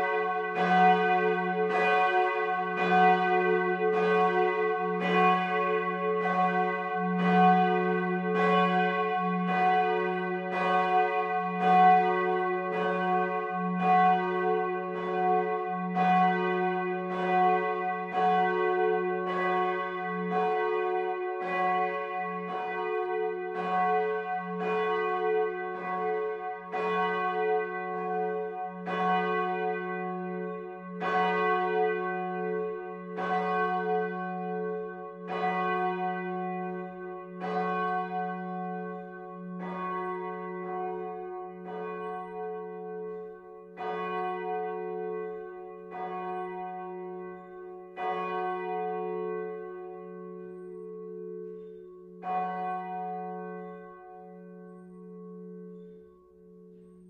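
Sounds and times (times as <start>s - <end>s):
church bell ringing: 0.0s - 57.0s.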